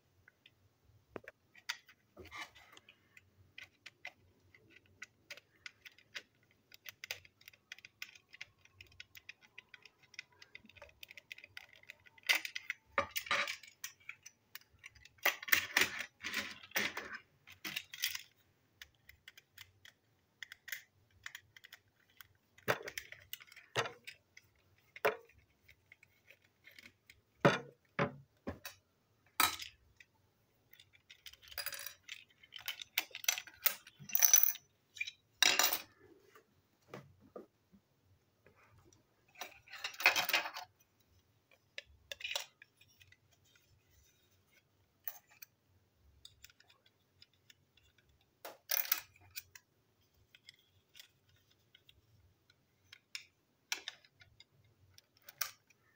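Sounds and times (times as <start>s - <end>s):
plastic parts clicking and rattling: 0.3s - 36.1s, 38.5s - 55.9s.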